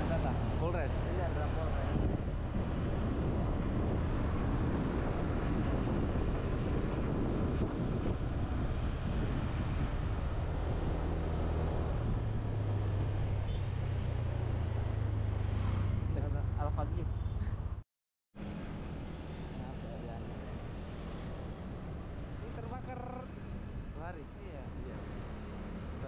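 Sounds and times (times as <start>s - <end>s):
road and wind rush: 0.0s - 17.8s, 18.4s - 26.0s.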